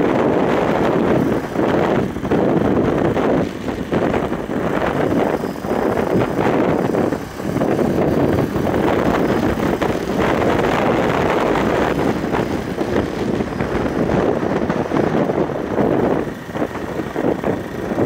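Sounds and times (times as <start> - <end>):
motorcycle engine: 0.0 - 18.0
road noise: 0.0 - 18.0
wind rush over microphone: 0.0 - 18.0.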